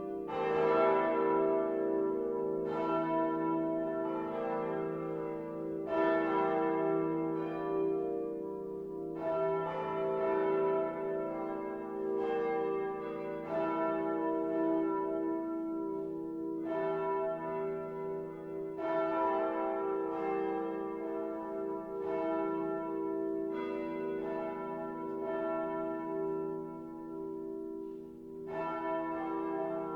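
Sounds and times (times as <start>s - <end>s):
swinging church bells striking: 0.0s - 29.9s.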